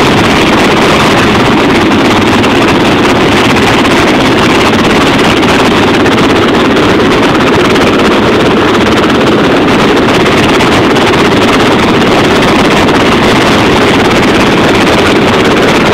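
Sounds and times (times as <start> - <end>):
downwash buffeting microphone: 0.0 - 15.9
helicopter rotor and engine roar: 0.0 - 15.9.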